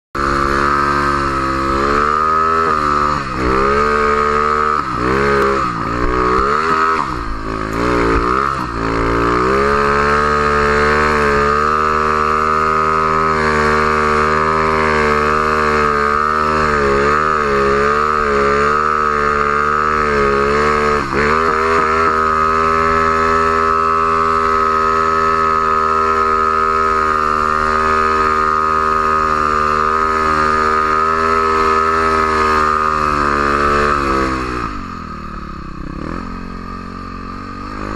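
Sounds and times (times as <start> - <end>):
snowmobile engine revving: 0.2 - 37.9.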